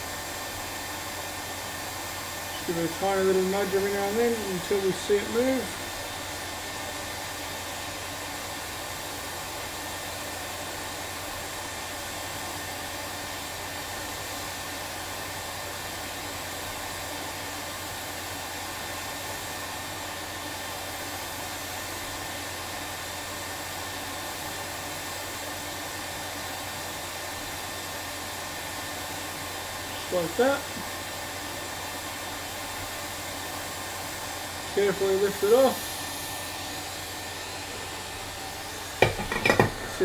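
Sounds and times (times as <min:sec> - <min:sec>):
hot air station hissing: 0:00.0 - 0:40.0.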